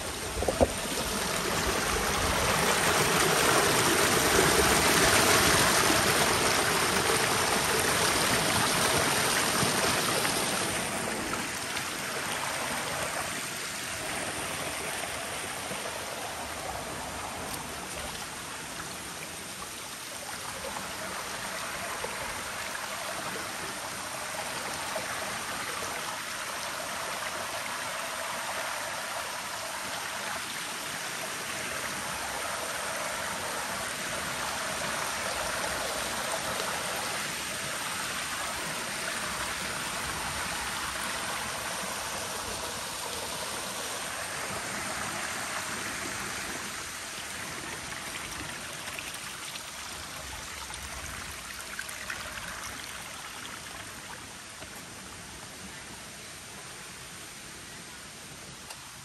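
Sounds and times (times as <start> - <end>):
waterfall rushing over rock: 0.0 - 19.5, 20.8 - 54.6.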